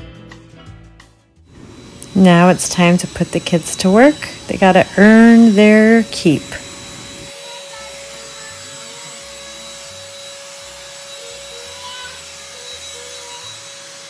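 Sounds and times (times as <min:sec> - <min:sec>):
handheld vacuum cleaner running: 0:01.5 - 0:14.0.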